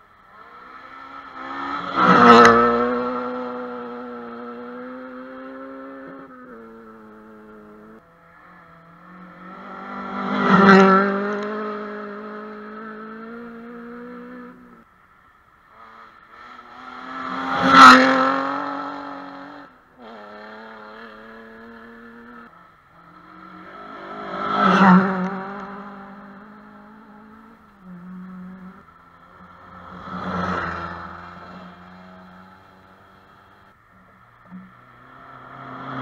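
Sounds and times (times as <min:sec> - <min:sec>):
rally car engine revving: 0:00.3 - 0:14.8, 0:15.7 - 0:36.0.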